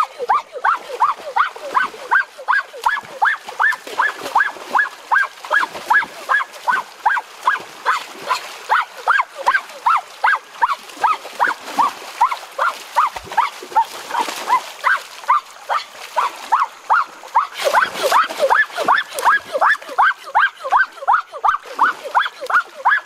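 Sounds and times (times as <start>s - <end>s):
stream water splashing: 0.0s - 23.0s.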